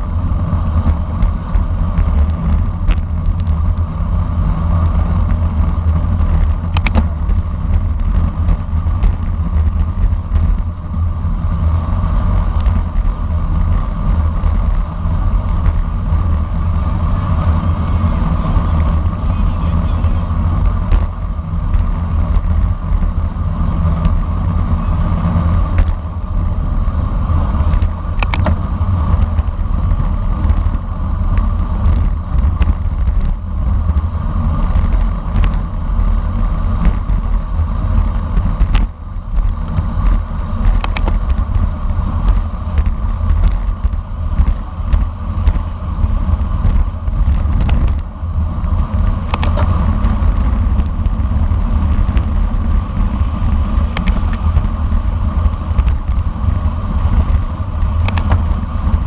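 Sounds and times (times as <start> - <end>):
constant hum: 0.0 - 59.0
wind rumble on microphone: 0.0 - 59.0.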